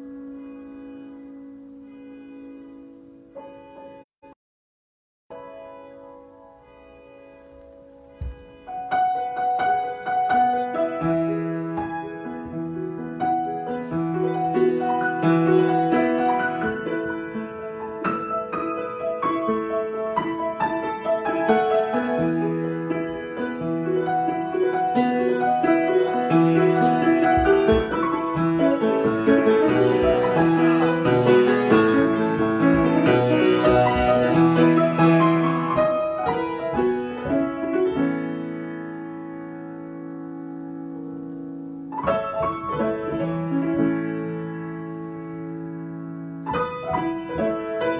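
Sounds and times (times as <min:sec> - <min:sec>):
solo piano: 0:00.0 - 0:04.4, 0:05.3 - 0:47.9.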